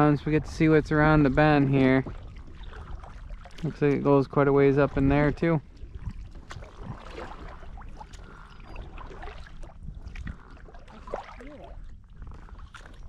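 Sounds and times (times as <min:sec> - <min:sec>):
water trickling off paddle: 0:00.1 - 0:13.0
paddle splashing in water: 0:00.5 - 0:13.0.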